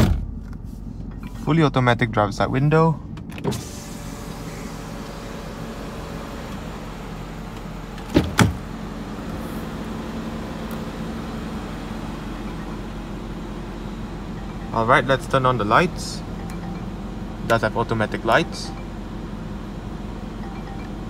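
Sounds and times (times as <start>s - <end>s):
car idling cabin hum: 0.0s - 21.0s.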